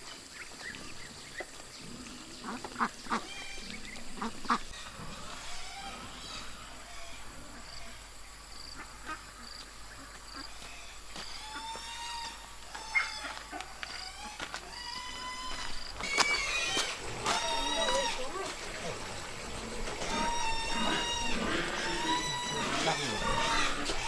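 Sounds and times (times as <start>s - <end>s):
birds chirping: 0.0s - 24.0s
longer bird calls: 0.0s - 24.0s.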